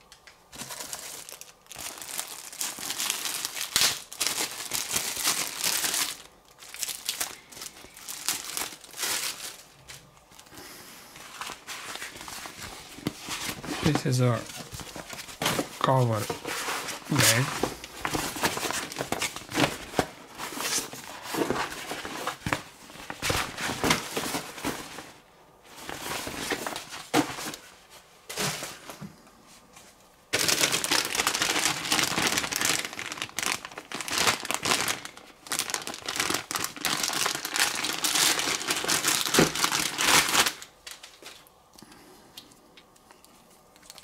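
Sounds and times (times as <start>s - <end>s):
plastic packaging crinkling: 0.0s - 10.6s, 11.2s - 27.8s, 30.3s - 41.6s.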